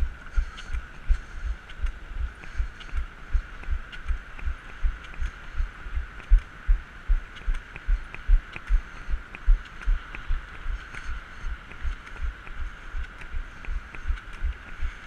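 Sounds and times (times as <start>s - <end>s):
faint steady hum: 0.0s - 15.0s
light ticks: 0.0s - 15.0s.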